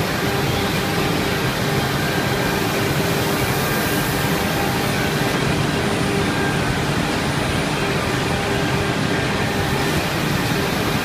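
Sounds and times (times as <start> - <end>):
cnc router running: 0.0 - 11.0.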